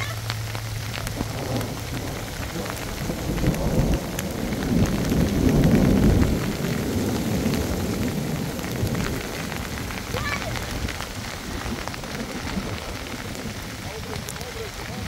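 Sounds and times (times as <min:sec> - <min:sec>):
heavy rain falling: 0:00.0 - 0:15.0
low rumble of thunder: 0:00.0 - 0:15.0.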